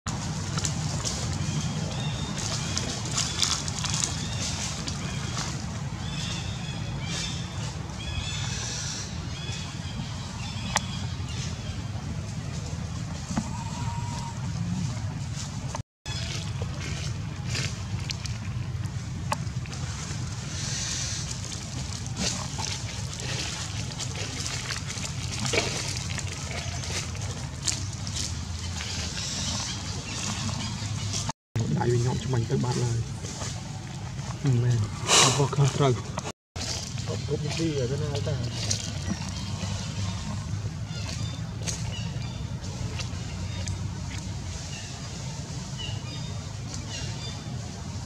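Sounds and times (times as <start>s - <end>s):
dry leaves crackling underfoot: 0.1s - 34.9s, 36.6s - 48.0s.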